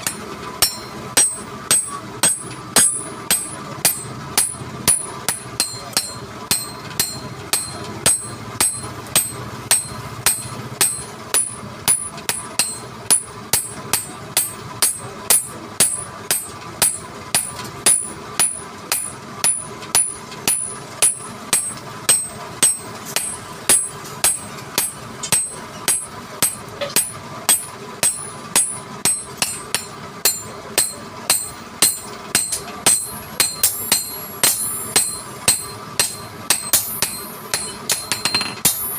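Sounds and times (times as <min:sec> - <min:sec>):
hammer striking metal: 0:00.0 - 0:38.9.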